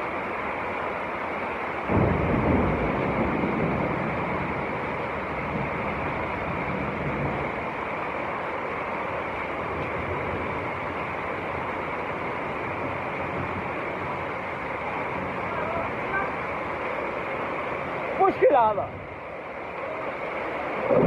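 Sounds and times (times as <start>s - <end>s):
heavy rain and hail: 0.0s - 21.0s.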